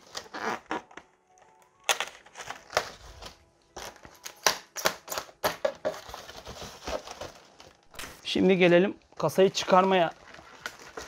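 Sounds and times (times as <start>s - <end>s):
packaging crinkling: 0.0s - 8.2s, 9.1s - 11.0s.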